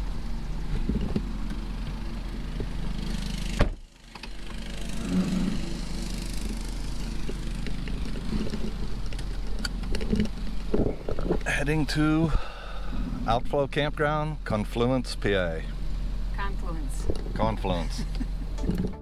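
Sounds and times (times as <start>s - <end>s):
road noise: 0.0s - 19.0s
vehicle engine hum: 0.0s - 19.0s.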